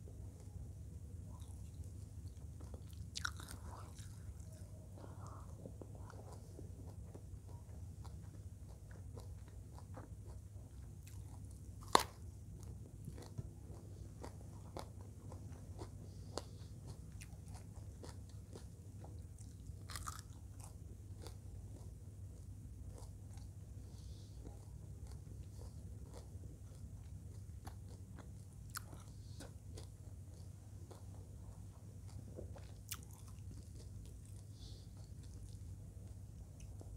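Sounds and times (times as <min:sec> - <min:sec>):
low steady hum: 0:00.0 - 0:36.9
person chewing food: 0:00.0 - 0:36.9.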